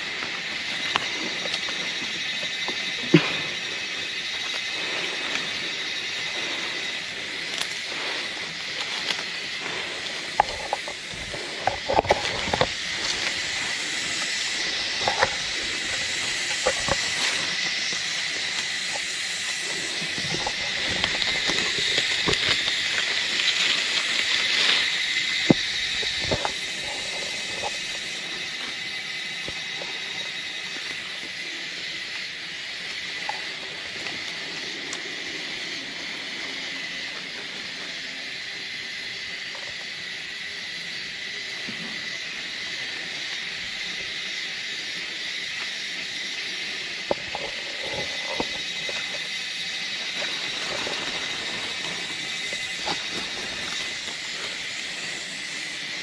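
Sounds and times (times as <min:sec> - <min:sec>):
forest insects droning: 0:00.0 - 0:56.0.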